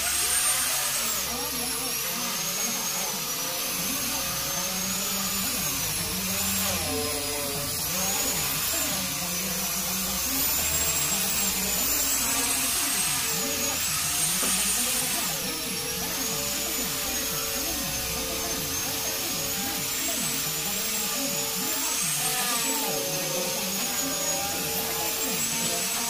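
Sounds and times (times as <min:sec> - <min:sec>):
angle grinder sanding wood: 0:00.0 - 0:26.0.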